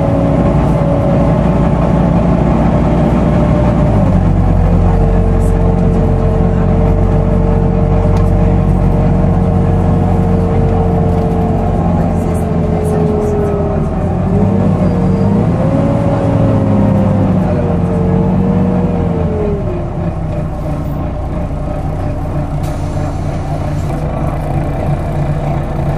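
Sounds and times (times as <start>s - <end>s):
bus engine running: 0.0s - 25.9s.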